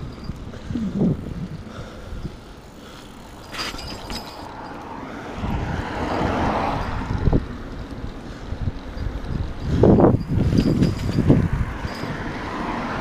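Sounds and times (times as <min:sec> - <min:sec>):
bicycle clatter: 0:00.0 - 0:05.1, 0:06.2 - 0:13.0
bicycle tyre noise: 0:00.0 - 0:13.0
wind buffeting microphone: 0:00.0 - 0:13.0.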